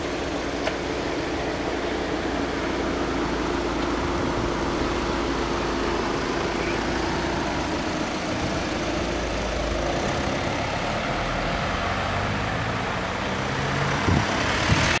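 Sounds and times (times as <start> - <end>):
cars driving past: 2.1 - 15.0.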